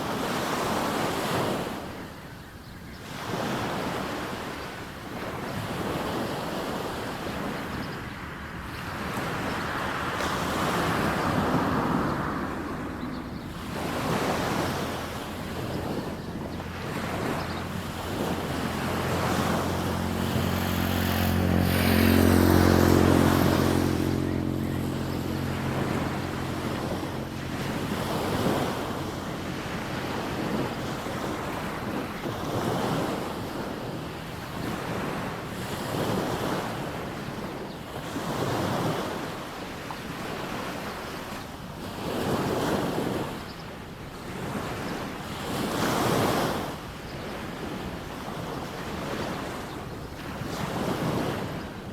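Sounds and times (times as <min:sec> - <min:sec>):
waves washing onto beach: 0:00.0 - 0:51.9.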